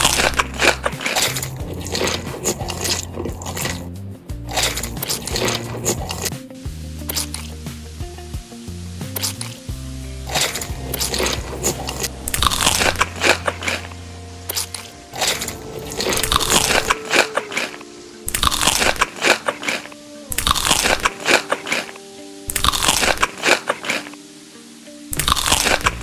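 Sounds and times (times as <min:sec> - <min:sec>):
crunchy food chewing: 0:00.0 - 0:06.3, 0:07.1 - 0:07.5, 0:09.2 - 0:09.6, 0:10.3 - 0:24.2, 0:25.2 - 0:26.0
background music: 0:00.0 - 0:26.0.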